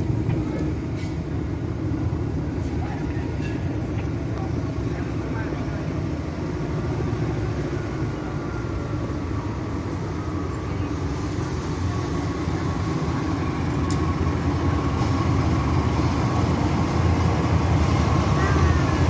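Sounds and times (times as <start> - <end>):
locomotive engine rumble: 0.0 - 19.0.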